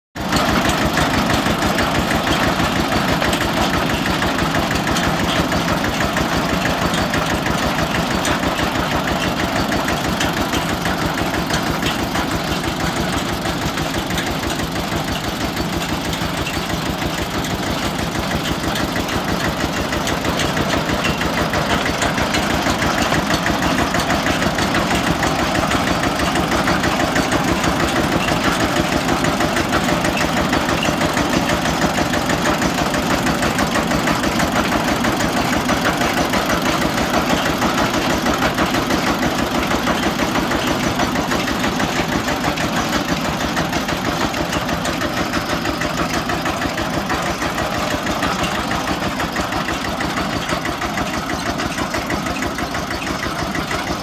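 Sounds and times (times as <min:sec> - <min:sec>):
diesel engine pulsing: 0:00.2 - 0:54.0.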